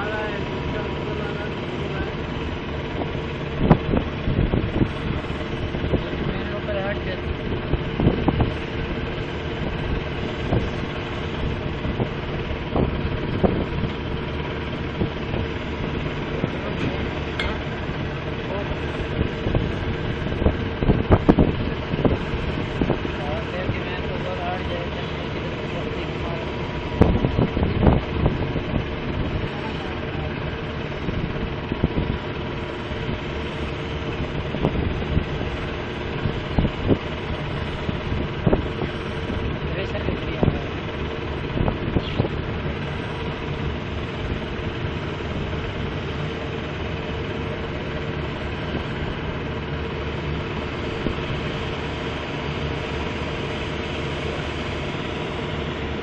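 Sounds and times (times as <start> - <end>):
heavy vehicle engine running: 0.0 - 56.0
wind buffeting microphone: 0.0 - 56.0.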